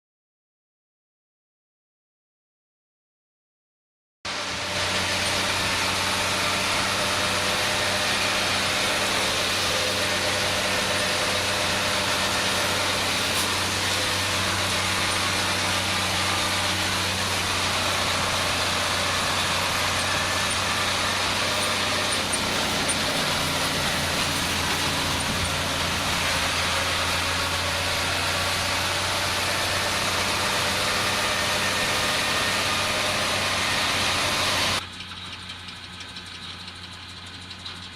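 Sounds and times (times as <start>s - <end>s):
tractor diesel engine running: 4.3s - 37.9s.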